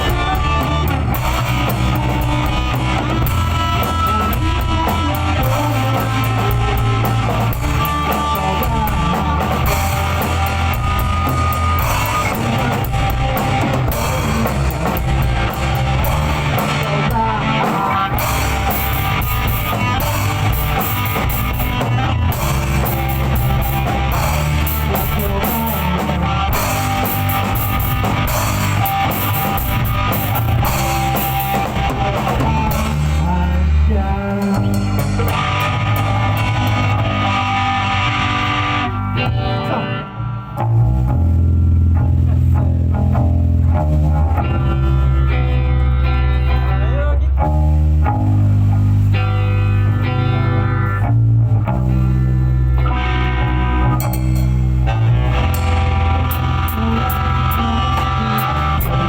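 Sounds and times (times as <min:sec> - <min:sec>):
loud rock music: 0:00.0 - 0:59.0.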